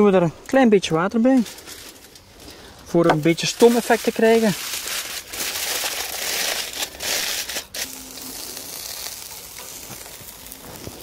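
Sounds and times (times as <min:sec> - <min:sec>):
aluminium foil crinkling: 0:01.1 - 0:11.0
meat sizzling on charcoal grill: 0:01.1 - 0:11.0.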